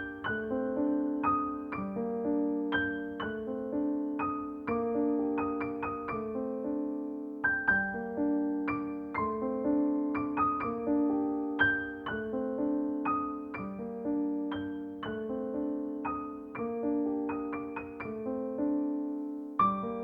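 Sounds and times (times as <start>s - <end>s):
gentle piano piece: 0.0s - 20.0s.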